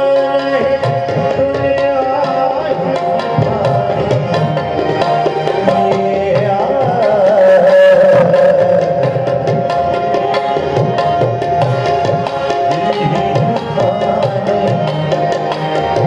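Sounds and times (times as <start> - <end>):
harmonium sustained notes: 0.0 - 16.0.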